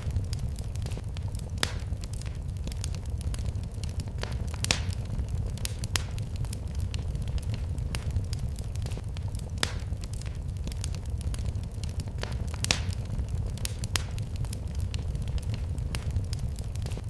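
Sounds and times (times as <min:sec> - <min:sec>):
fire crackling and popping: 0:00.0 - 0:17.0
fire flames roaring: 0:00.0 - 0:17.0.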